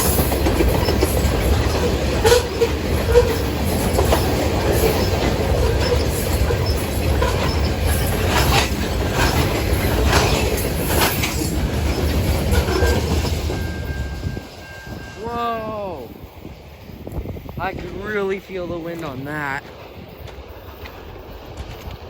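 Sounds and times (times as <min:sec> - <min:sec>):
wheels clacking over rail joints: 0:00.0 - 0:15.2, 0:16.6 - 0:22.0
freight train wheels rumbling: 0:00.0 - 0:22.0.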